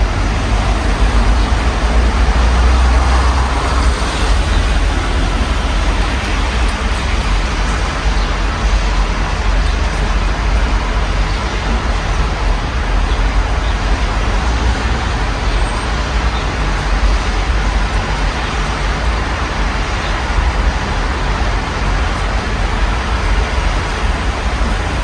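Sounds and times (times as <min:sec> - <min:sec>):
road traffic rumble: 0:00.0 - 0:25.0
steady rain: 0:00.0 - 0:25.0.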